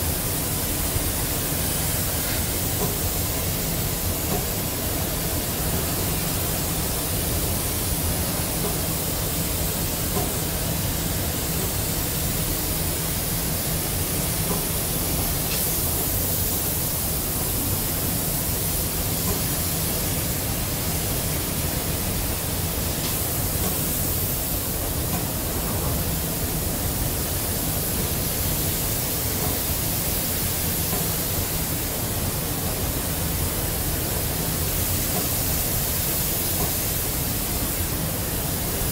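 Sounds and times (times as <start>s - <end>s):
spray painting hiss: 0.0s - 38.9s.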